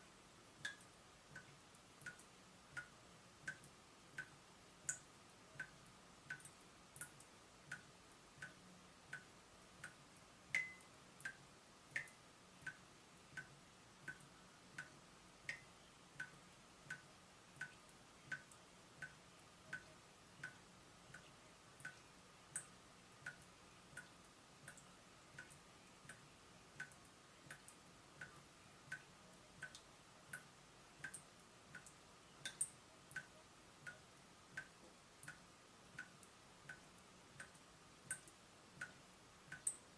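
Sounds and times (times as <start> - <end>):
water dripping from tap: 0.6 - 12.8, 13.4 - 26.2, 26.8 - 33.3, 36.0 - 39.9.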